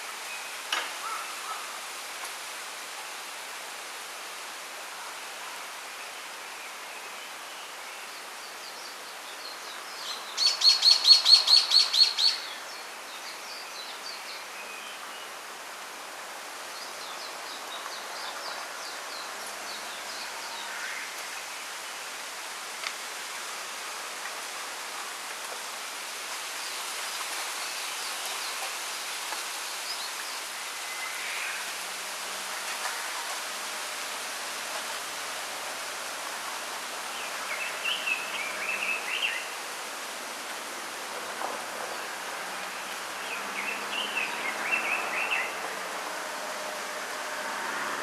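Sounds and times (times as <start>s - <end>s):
wind rustling through bamboo: 0.0s - 48.0s.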